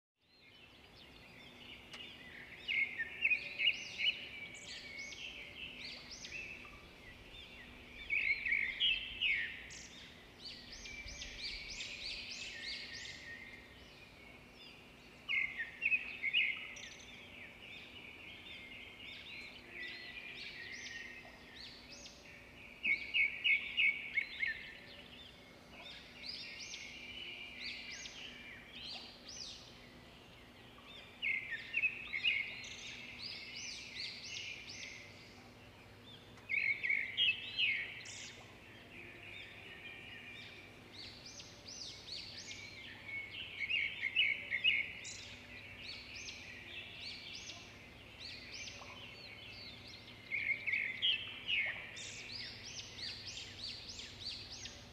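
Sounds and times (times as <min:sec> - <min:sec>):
wild birds chirping and singing: 0:00.2 - 0:54.9.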